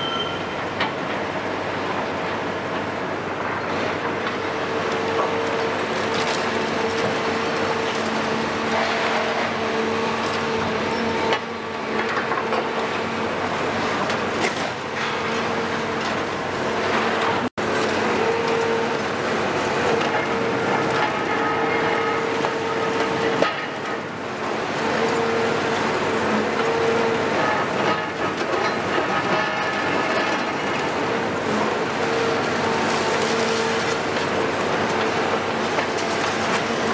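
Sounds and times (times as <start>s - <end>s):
diesel engine under load: 0.0s - 36.9s.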